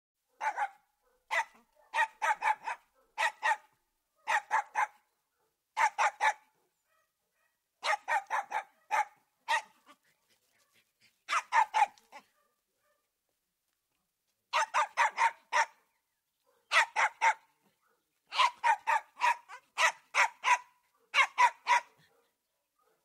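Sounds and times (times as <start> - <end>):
puppy barking: 0.3 - 13.1, 14.5 - 15.8, 16.4 - 23.0.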